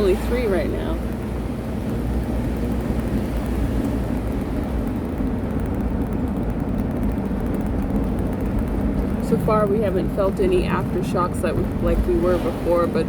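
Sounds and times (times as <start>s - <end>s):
car driving heard from cabin: 0.0s - 13.0s.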